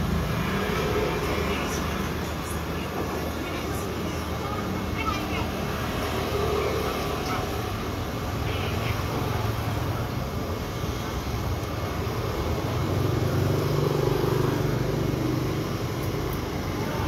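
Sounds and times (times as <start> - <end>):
motor vehicle passing: 0.0 - 17.0
street traffic noise: 0.0 - 17.0.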